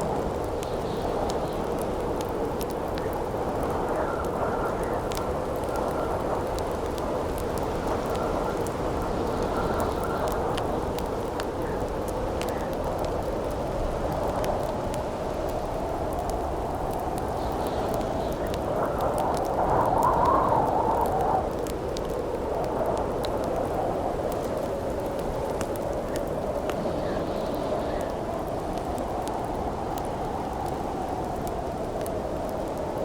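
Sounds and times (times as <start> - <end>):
campfire crackling: 0.0 - 33.0
howling wind: 0.0 - 33.0.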